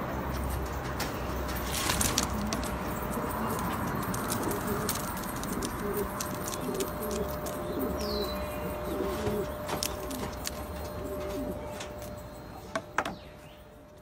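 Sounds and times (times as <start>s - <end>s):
pigeons cooing: 1.4s - 13.2s.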